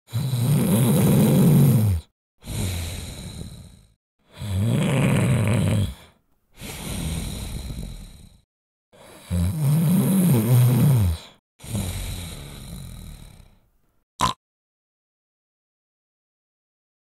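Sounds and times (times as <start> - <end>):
man snoring: 0.1 - 14.4.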